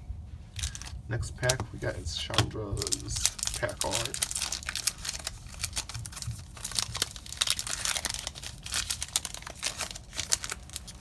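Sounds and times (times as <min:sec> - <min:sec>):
foil wrapper crinkling and tearing: 0:00.5 - 0:11.0.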